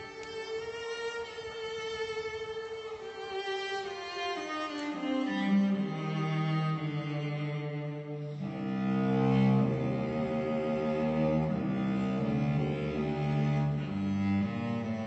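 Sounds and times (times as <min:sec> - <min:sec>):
slow bowed string music: 0:00.0 - 0:15.0.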